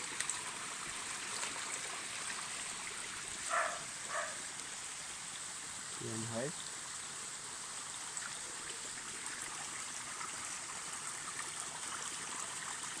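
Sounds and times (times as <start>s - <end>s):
spring water trickling over rocks: 0.0s - 13.0s.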